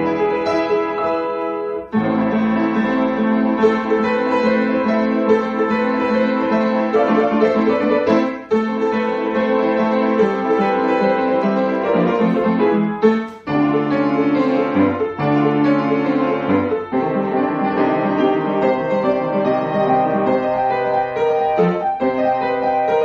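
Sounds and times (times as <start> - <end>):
upright piano playing: 0.0 - 23.0.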